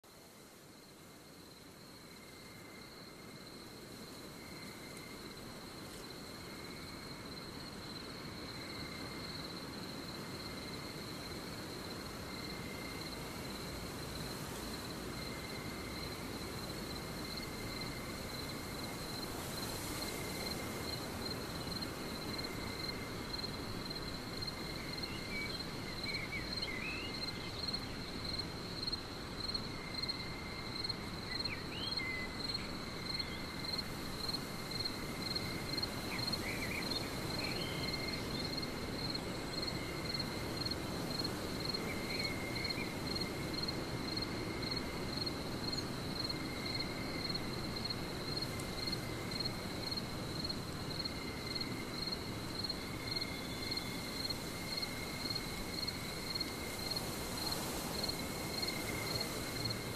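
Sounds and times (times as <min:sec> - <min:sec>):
insects trilling: 0:00.1 - 0:59.9
soft even hiss: 0:00.1 - 0:59.9.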